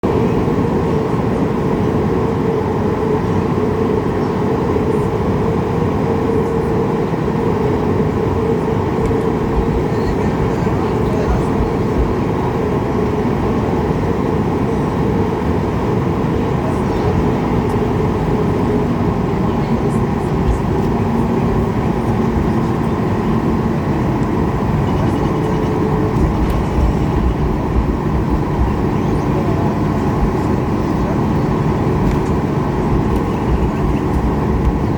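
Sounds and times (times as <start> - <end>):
airliner cabin rumble: 0.0 - 34.9
steady hum-like tone: 0.0 - 34.9.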